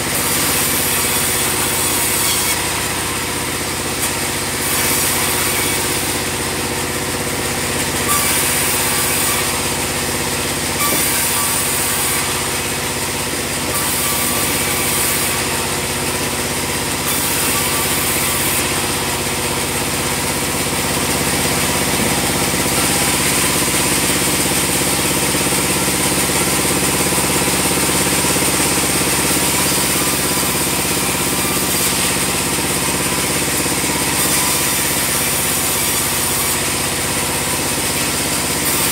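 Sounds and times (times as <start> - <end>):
bandsaw machinery droning: 0.0 - 38.9.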